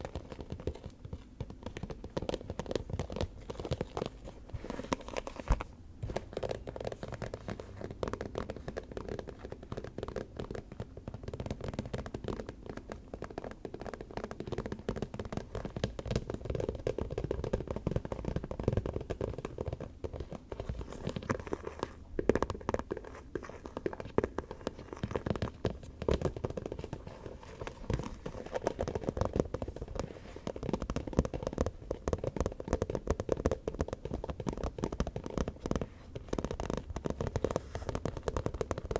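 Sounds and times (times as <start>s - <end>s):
fingers tapping and scratching: 0.0s - 38.9s.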